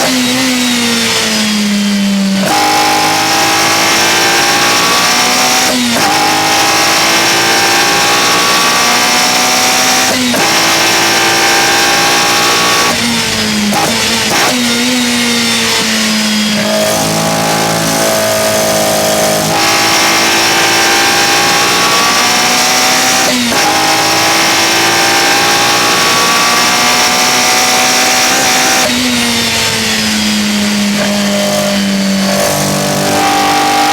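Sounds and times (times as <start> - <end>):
four-cylinder engine revving hard: 0.0 - 33.9.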